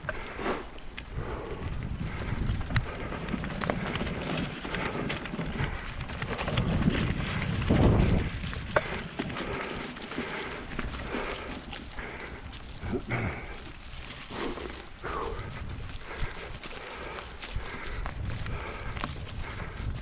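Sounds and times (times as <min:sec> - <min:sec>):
bike tyres crackling on dirt: 0:00.0 - 0:20.0
wind rumble on microphone: 0:00.0 - 0:20.0.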